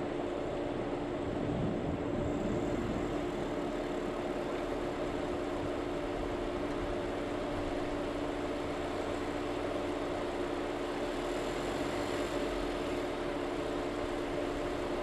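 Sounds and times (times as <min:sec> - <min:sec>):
car engine droning: 0:00.0 - 0:15.0
road noise: 0:00.0 - 0:15.0.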